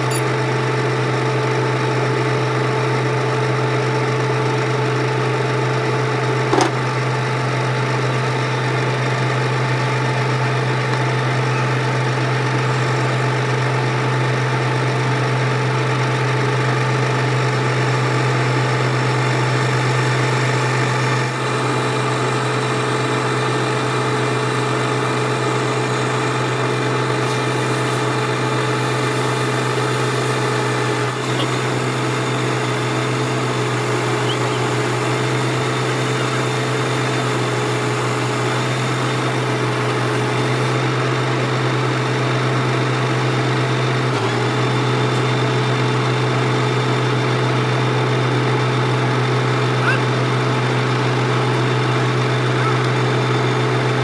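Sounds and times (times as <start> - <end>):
lathe motor humming: 0.0 - 54.0.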